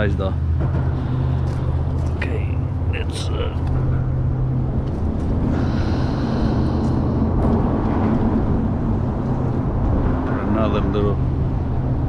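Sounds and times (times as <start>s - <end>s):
low engine drone: 0.0s - 12.0s
rough outdoor noise: 0.0s - 12.0s.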